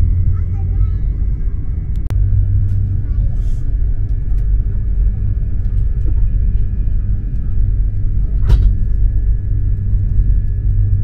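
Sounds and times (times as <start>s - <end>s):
faint steady whine: 0.0s - 11.0s
train interior rumble: 0.0s - 11.0s.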